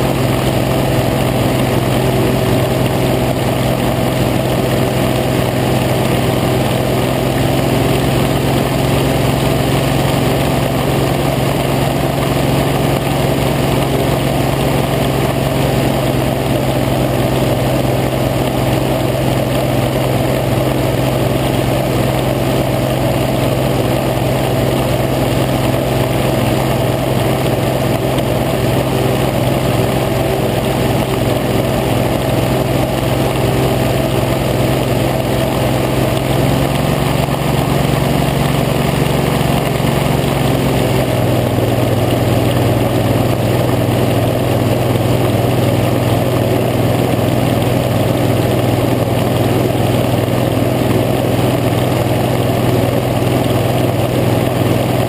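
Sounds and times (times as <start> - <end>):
hovercraft engine and fan running: 0.0 - 55.0.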